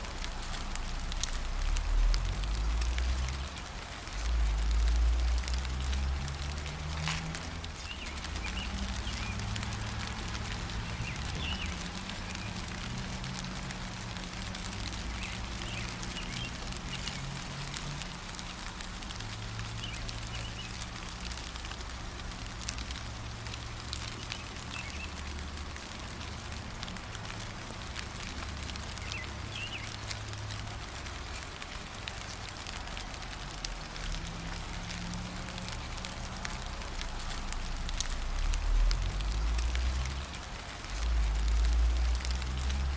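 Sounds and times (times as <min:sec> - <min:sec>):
gentle rain: 0:00.0 - 0:42.9.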